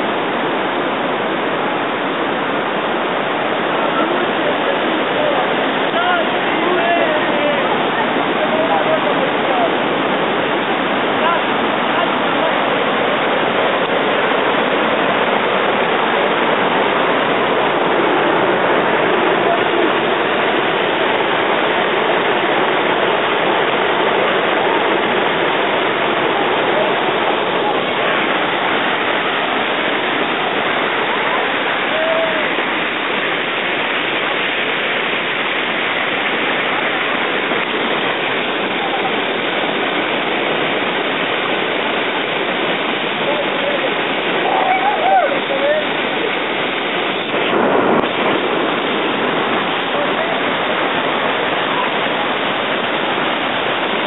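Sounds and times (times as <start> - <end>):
white water rushing: 0.0 - 54.0.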